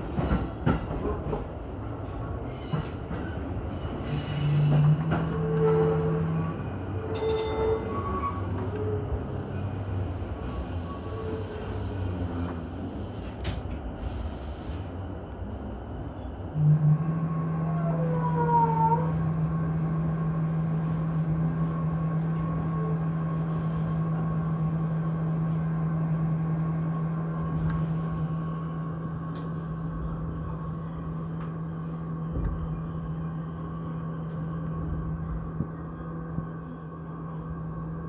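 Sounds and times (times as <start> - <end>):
electric train hum: 0.0 - 38.0.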